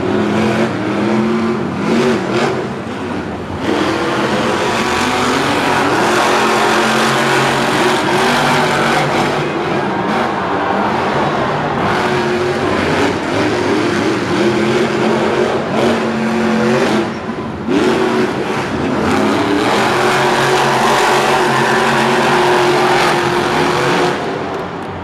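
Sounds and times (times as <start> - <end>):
truck engines at high revs: 0.0 - 25.0.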